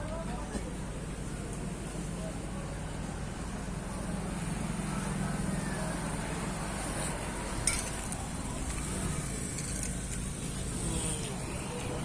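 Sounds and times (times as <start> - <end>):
motor vehicle hum: 0.0 - 12.0.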